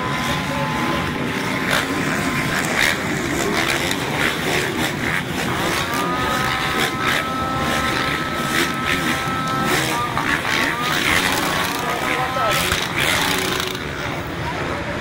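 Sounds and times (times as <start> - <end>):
motocross bikes revving: 0.0 - 15.0.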